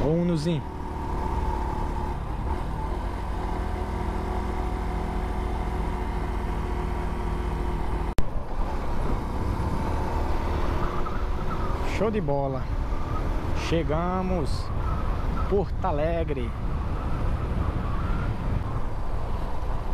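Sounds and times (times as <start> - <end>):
road and wind rumble: 0.0 - 19.9.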